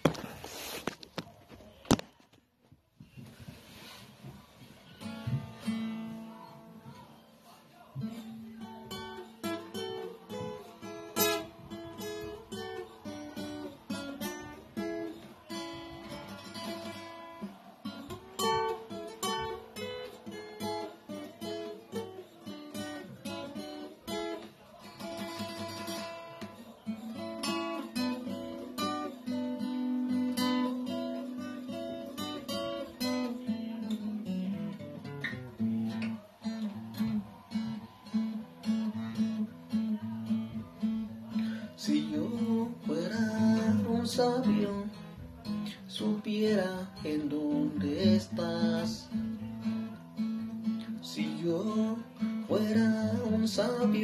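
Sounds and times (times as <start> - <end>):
acoustic guitar playing: 4.6 - 54.0.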